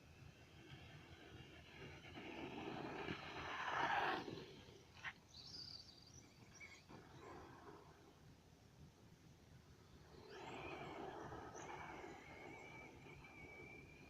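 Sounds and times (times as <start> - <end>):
rc truck driving past: 0.0 - 8.3, 9.7 - 14.0.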